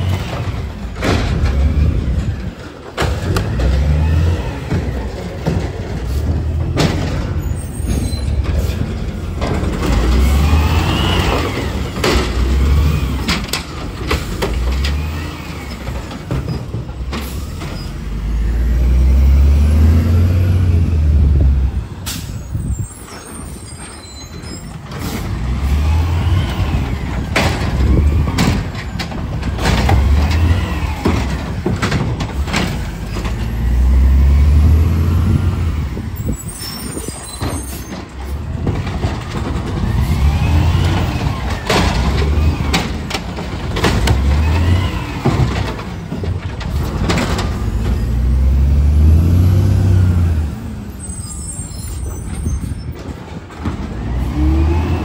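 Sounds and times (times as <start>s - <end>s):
garbage truck engine revving: 0.0s - 22.4s, 24.8s - 36.3s, 38.1s - 52.2s, 53.1s - 55.0s.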